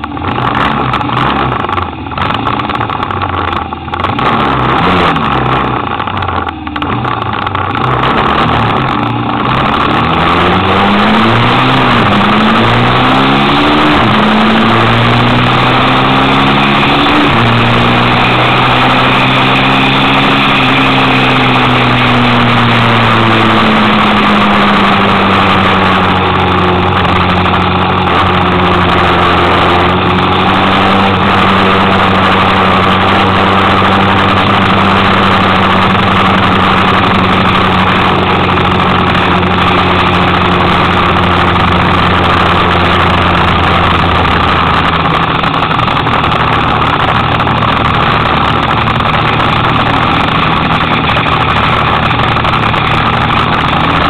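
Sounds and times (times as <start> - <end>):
motorcycle engine accelerating: 0.0 - 54.0
wind rushing over microphone: 8.0 - 54.0.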